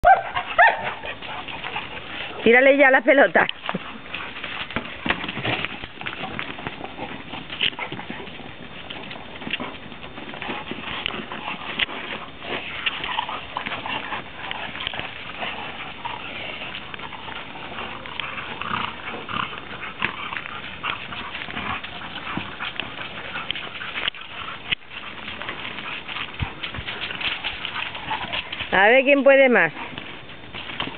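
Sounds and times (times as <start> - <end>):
dogs playing: 0.0 - 30.9
scuffling: 0.0 - 30.9.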